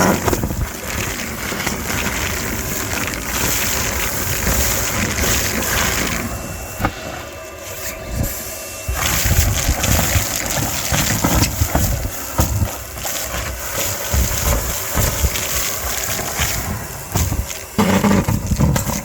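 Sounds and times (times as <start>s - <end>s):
vacuum hose sucking: 0.0s - 19.0s.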